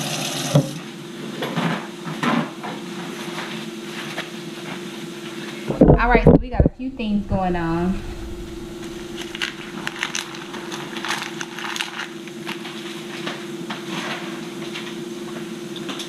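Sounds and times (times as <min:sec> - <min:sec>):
steady low hum: 0:02.0 - 0:16.0.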